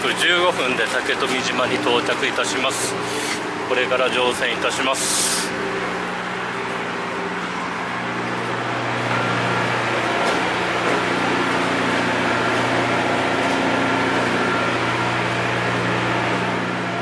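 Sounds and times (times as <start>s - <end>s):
ferry engines humming: 0.0s - 17.0s.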